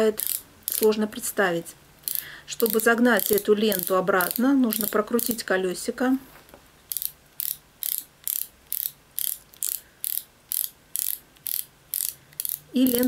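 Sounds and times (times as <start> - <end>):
tape measure ratcheting rasp: 0.0 - 1.0, 2.0 - 5.4, 6.9 - 13.0.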